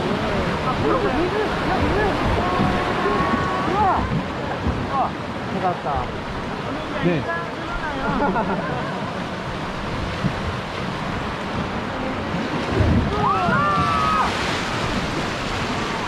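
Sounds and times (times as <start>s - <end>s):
wind buffeting the microphone: 0.0s - 7.2s, 9.0s - 16.0s
river water rushing: 0.0s - 16.0s.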